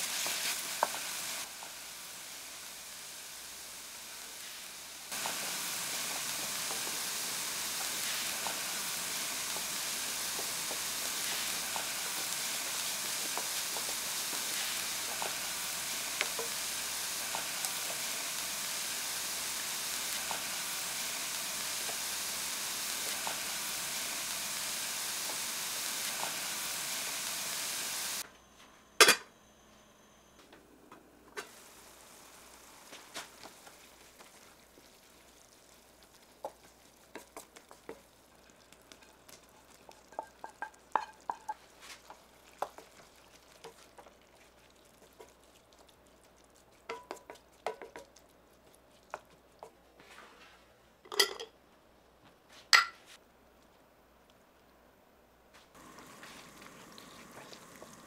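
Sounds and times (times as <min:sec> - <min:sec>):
food sizzling in a frying pan: 0:00.0 - 0:28.2, 0:31.4 - 0:49.7, 0:55.8 - 0:58.0.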